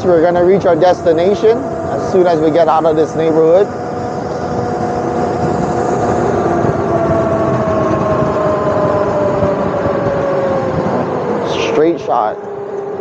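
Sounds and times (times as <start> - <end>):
electric motor whine: 0.0 - 13.0
wind and road noise: 0.0 - 13.0.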